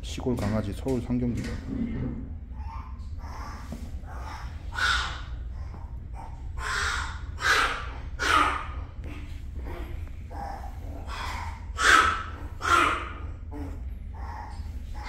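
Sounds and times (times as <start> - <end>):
steady low hum: 0.0 - 15.0
dog hoarse cries: 2.4 - 15.0.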